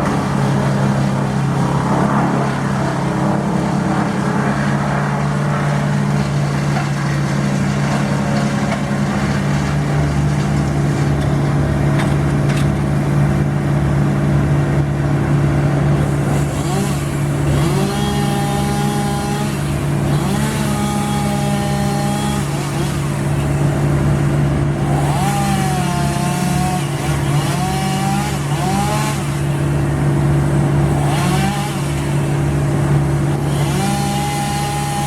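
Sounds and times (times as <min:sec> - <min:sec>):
heavy machinery engine running: 0:00.0 - 0:35.0.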